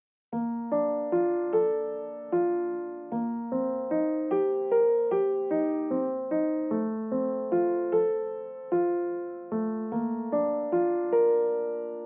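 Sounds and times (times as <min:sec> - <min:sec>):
slow piano melody: 0:00.3 - 0:12.0.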